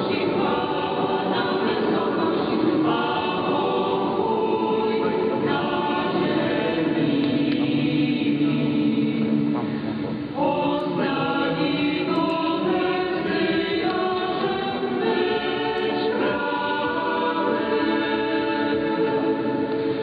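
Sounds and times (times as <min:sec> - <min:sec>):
choir singing over am radio: 0:00.0 - 0:20.0.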